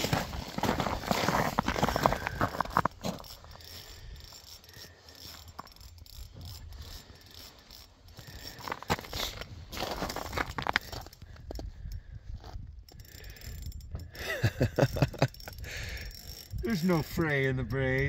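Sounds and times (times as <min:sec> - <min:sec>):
fishing reel ratcheting and clicking: 0:00.7 - 0:18.0.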